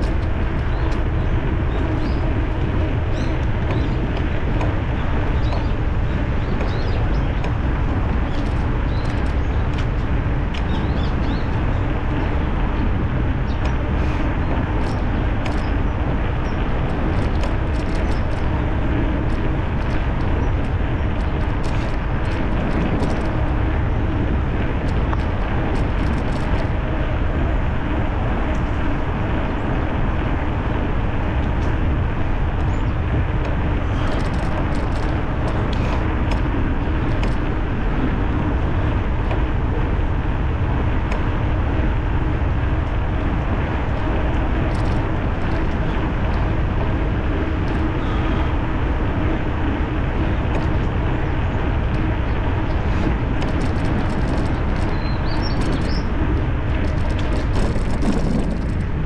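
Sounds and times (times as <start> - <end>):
tyre and road noise: 0.0 - 59.0
wind buffeting microphone: 0.0 - 59.0.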